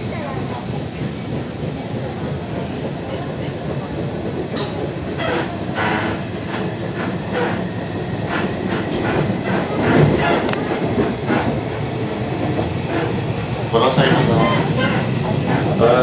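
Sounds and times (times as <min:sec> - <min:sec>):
train interior rumble: 0:00.0 - 0:16.0.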